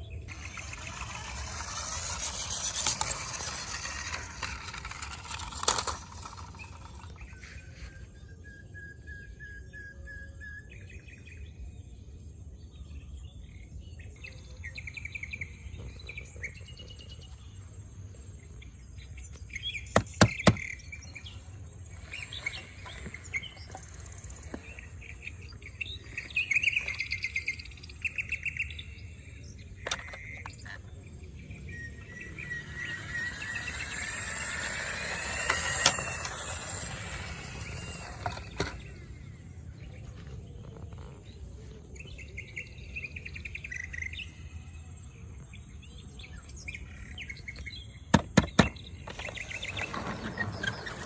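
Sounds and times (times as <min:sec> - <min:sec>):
small birds chirping and trilling: 0:00.0 - 0:51.0.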